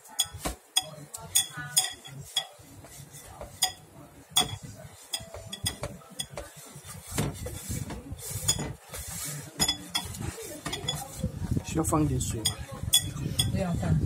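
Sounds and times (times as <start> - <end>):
handling and stirring noise: 0.0 - 14.0
utensils and dishes clinking: 0.0 - 14.0.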